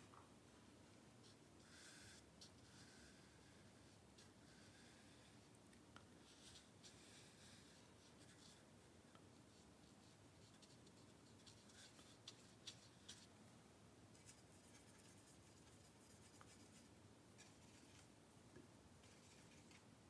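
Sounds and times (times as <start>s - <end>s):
paintbrush strokes on paper: 0.0s - 13.4s, 14.1s - 18.2s, 19.0s - 20.0s.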